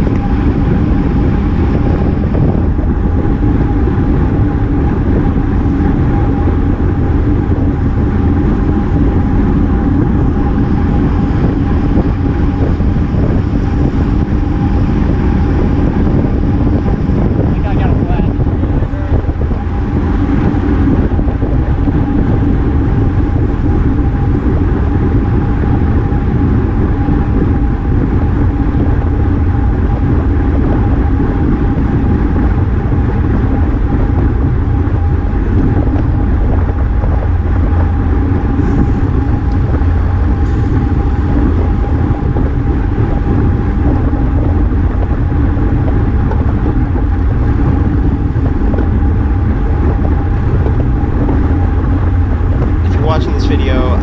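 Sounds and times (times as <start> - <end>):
thin steady hum: 0.0 - 54.0
wind rushing over microphone: 0.0 - 54.0.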